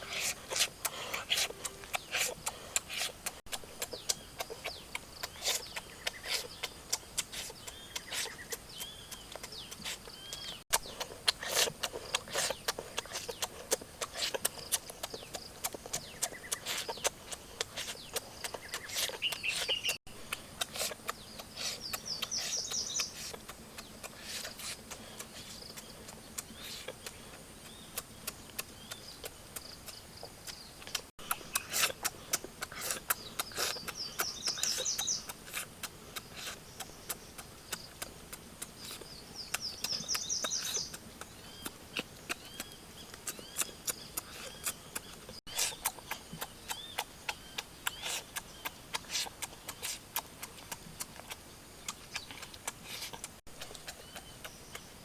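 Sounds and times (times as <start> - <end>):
birds chirping: 0.0 - 3.2, 3.8 - 11.1, 11.9 - 35.4, 36.2 - 50.0, 50.6 - 55.0.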